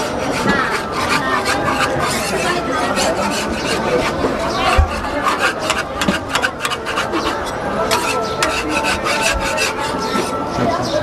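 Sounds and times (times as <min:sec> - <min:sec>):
metal spatula scraping griddle: 0:00.0 - 0:10.6.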